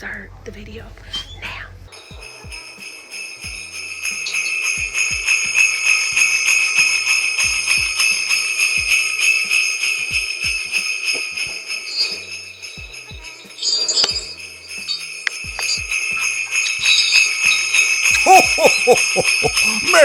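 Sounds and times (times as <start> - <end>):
sleigh bells jingling: 1.9 - 20.0.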